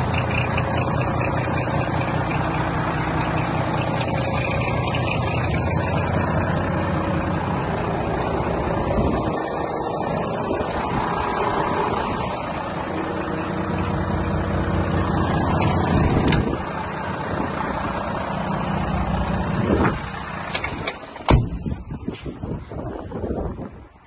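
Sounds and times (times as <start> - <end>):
diesel engine idling: 0.0 - 23.8.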